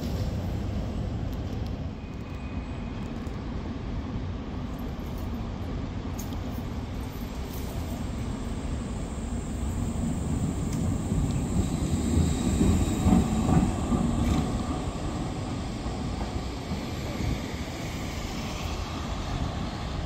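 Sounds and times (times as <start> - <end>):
city street rumble: 0.0 - 20.0.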